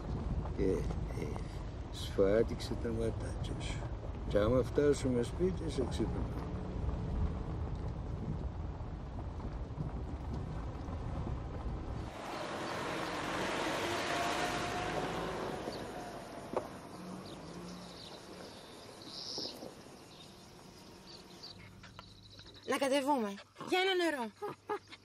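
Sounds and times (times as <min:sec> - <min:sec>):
engine rumbling: 0:00.0 - 0:23.0.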